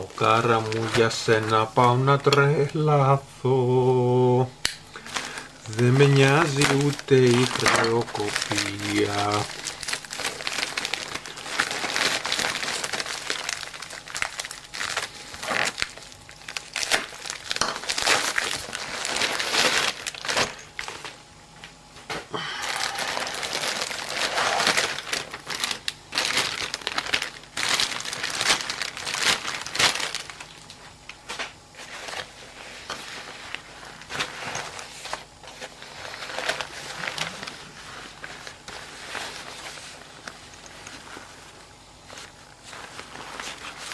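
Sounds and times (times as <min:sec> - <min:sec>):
plastic packaging crinkling: 0:00.0 - 0:21.8, 0:22.4 - 0:43.9.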